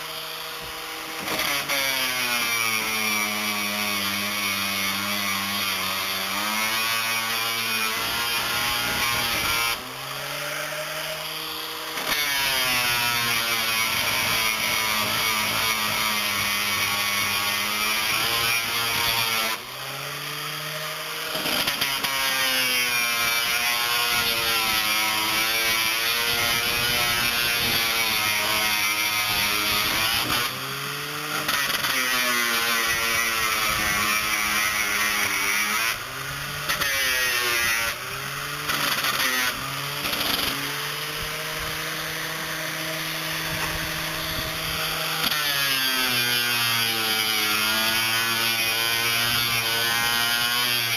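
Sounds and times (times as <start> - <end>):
circular saw cutting plywood: 0.0 - 50.9.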